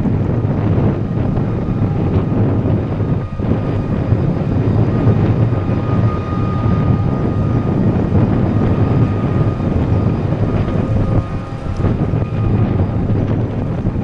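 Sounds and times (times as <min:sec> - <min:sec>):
faint steady whine: 0:00.0 - 0:14.0
steady low rumble: 0:00.0 - 0:14.0
wind buffeting microphone: 0:00.0 - 0:14.0.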